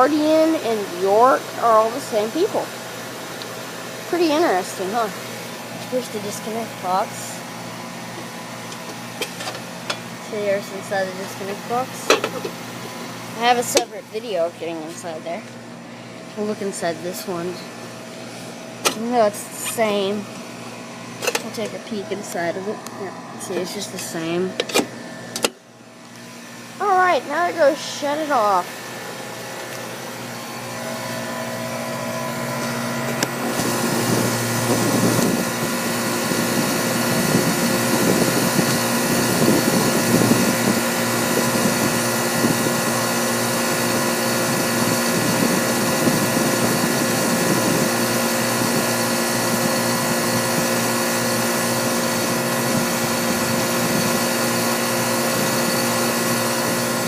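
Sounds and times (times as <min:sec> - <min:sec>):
air conditioner compressor hum: 0:00.0 - 0:57.0
condenser fan whooshing: 0:00.0 - 0:57.0.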